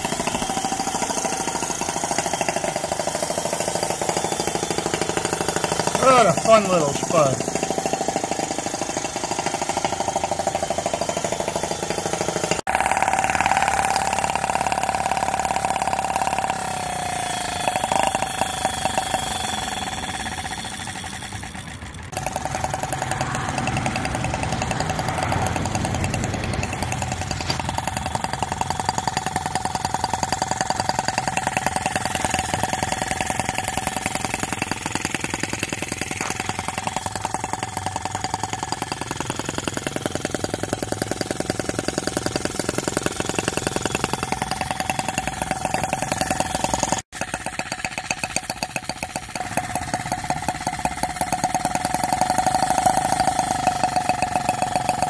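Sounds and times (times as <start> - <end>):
model engine running rapidly: 0.0 - 55.0.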